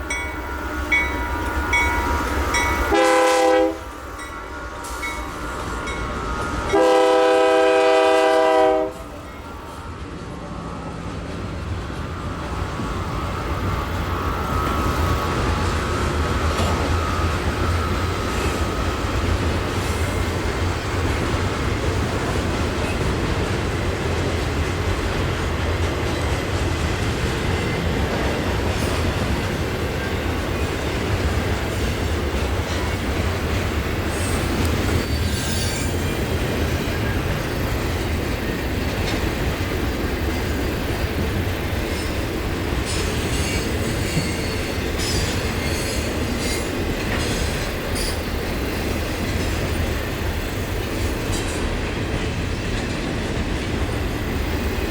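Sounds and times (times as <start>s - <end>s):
railcars rumbling and clacking past: 0.0s - 54.9s.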